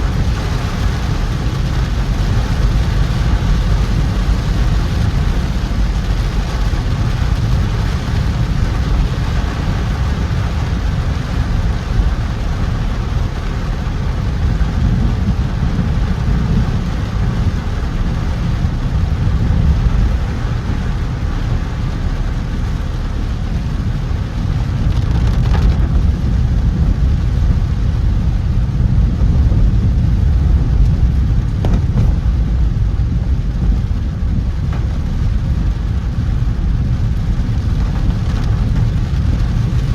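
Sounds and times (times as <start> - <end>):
car road rumble: 0.0 - 39.9
rain hissing: 0.0 - 39.9
tyres on wet road: 0.0 - 39.9.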